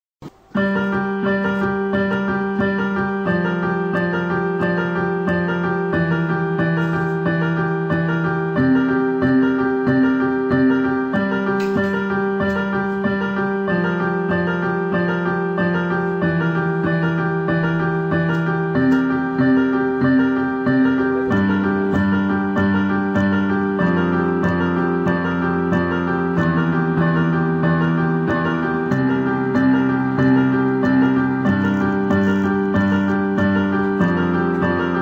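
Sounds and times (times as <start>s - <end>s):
background piano music: 0.3s - 35.0s.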